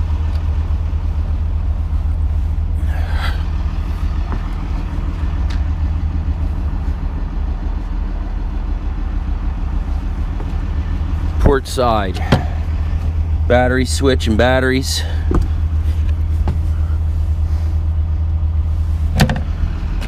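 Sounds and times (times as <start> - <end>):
low rumble with faint hum: 0.0 - 20.0.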